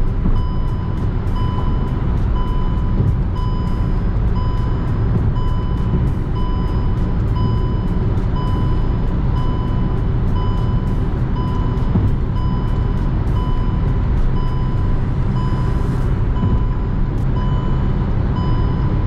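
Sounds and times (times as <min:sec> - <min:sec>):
engine and tyre rumble: 0:00.0 - 0:19.0
warning chime beeping: 0:00.4 - 0:19.0.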